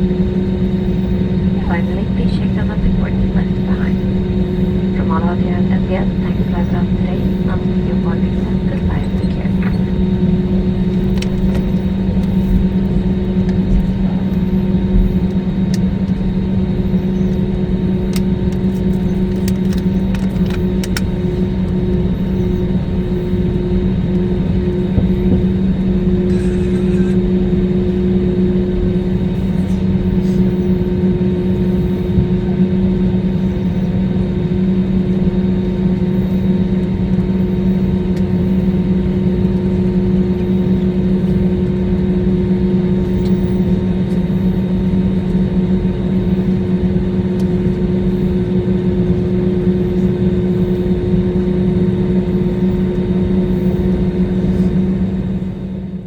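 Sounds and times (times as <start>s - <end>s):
airplane cabin hum: 0.0s - 56.0s.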